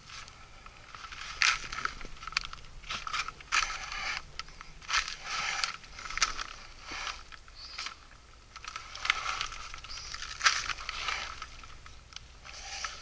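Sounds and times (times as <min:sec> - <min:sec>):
body rustling and scraping over ground: 0:00.0 - 0:08.0, 0:08.6 - 0:13.0.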